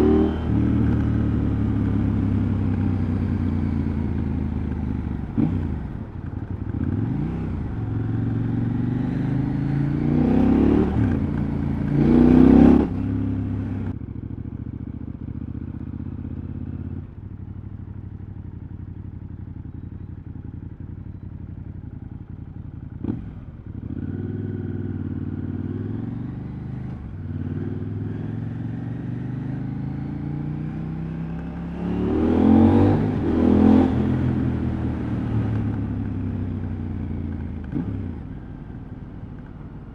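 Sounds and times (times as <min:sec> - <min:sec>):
motorcycle engine revving: 0:00.0 - 0:18.2, 0:18.8 - 0:39.9.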